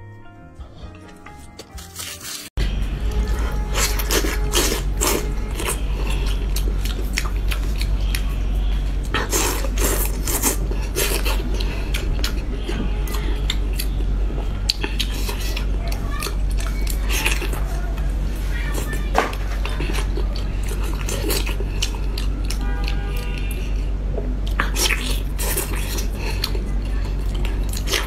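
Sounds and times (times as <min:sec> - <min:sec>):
wet chewing and lip-smacking: 0:00.9 - 0:18.1, 0:18.7 - 0:28.0
steady low hum: 0:02.6 - 0:28.0.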